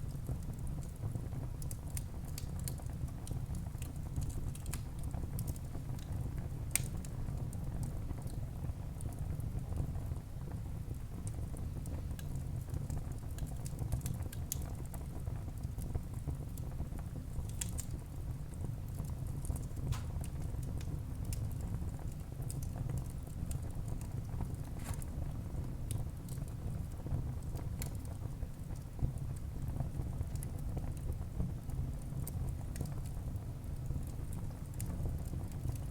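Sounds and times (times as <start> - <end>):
wood fire crackling and popping: 0.0 - 10.2, 10.8 - 35.9
fire flames rumbling: 0.1 - 35.9.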